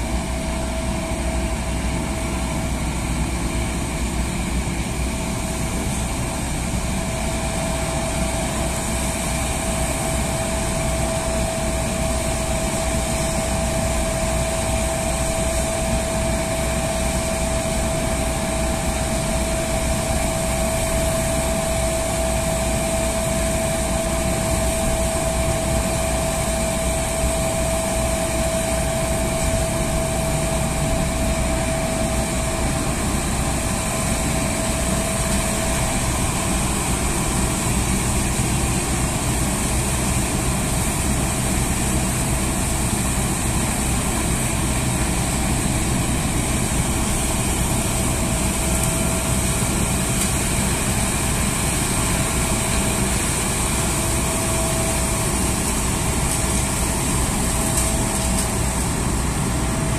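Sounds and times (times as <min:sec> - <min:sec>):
street sweeper machine drone: 0:00.0 - 0:59.9
hose vacuuming leaves: 0:08.6 - 0:59.9.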